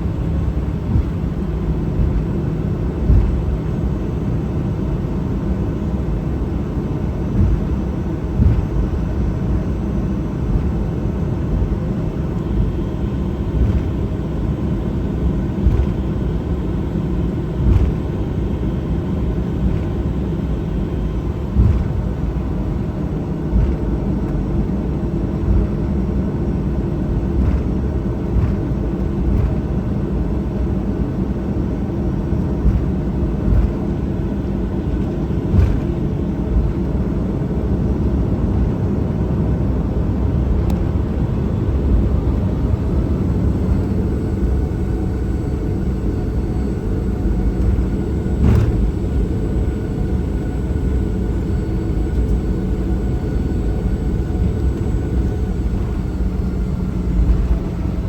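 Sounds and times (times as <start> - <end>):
jet engines rumbling: 0.0 - 58.0
thumps of wheels on taxiway: 0.0 - 58.0.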